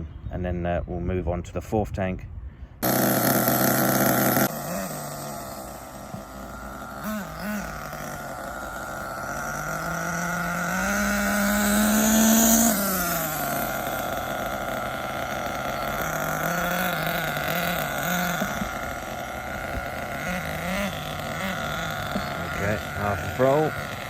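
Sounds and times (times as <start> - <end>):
nitro engine idling: 2.8 - 24.0
nitro engine revving: 2.8 - 24.0
nitro engine throttle blips: 2.8 - 24.0.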